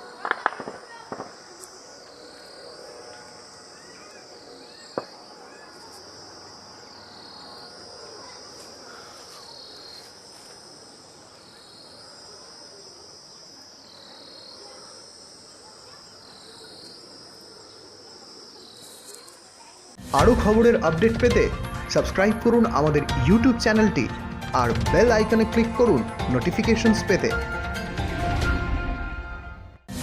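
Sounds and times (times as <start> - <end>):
insects trilling: 0.0 - 27.4.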